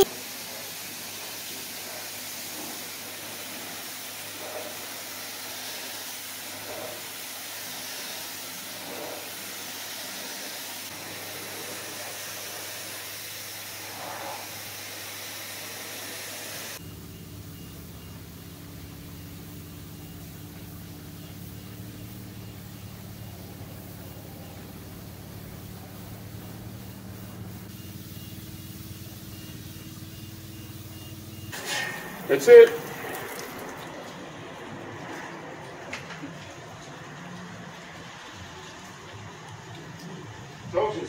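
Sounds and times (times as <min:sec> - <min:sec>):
pressure washer spraying: 0:00.0 - 0:41.0.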